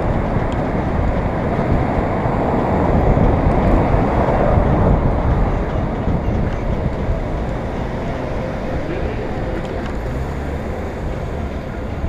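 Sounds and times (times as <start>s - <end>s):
bicycle road noise: 0.0s - 12.0s
traffic: 0.0s - 12.0s
wind on microphone: 0.0s - 12.0s.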